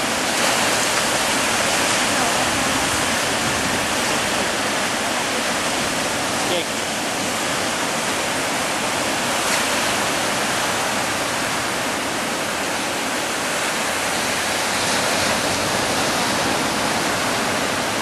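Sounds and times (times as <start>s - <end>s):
sea surf washing ashore: 0.0s - 18.0s.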